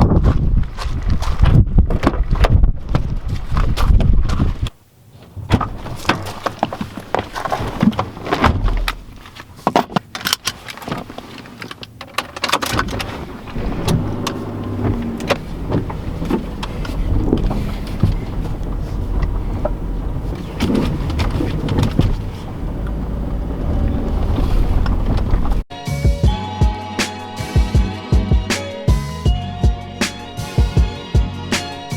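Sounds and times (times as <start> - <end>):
car engine and road rumble: 0.0 - 25.7.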